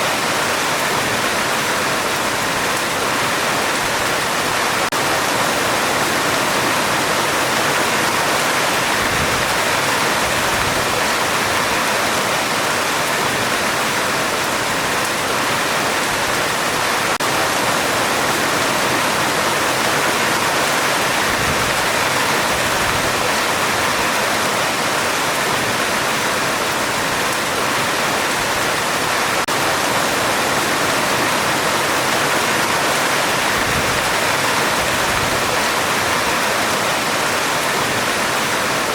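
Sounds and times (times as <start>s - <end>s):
heavy rain on a metal roof: 0.0s - 38.9s.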